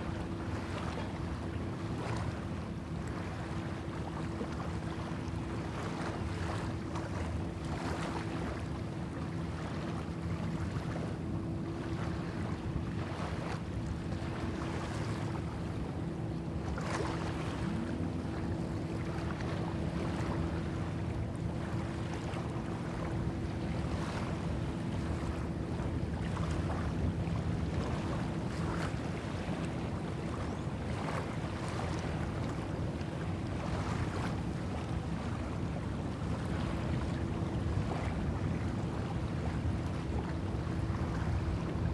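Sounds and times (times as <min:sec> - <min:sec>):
low hum and rumble: 0:00.0 - 0:41.9
small waves lapping on shore: 0:00.0 - 0:41.9.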